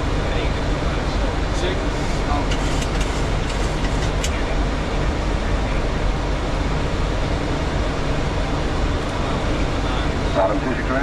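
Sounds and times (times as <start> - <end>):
rush of air in aircraft cockpit: 0.0 - 11.0.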